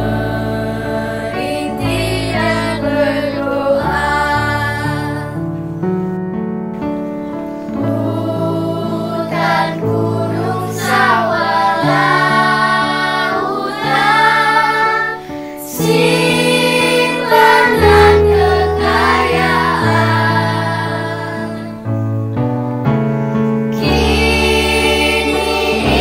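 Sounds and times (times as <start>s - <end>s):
children's choir singing: 0.0s - 5.4s, 7.8s - 21.8s, 23.7s - 26.0s.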